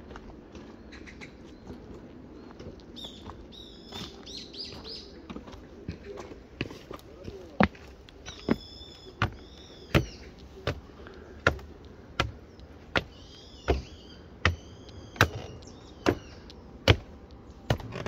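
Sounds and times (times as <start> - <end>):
birds chirping: 0.0 - 18.0
footsteps walking: 0.0 - 18.0.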